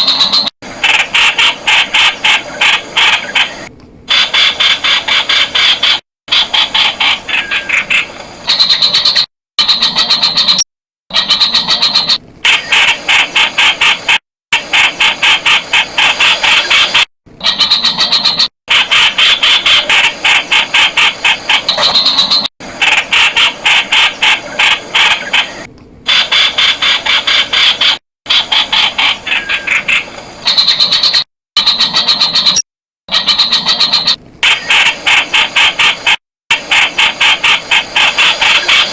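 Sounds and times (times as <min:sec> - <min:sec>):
bird calling sharp repeated notes: 0:00.0 - 0:38.9.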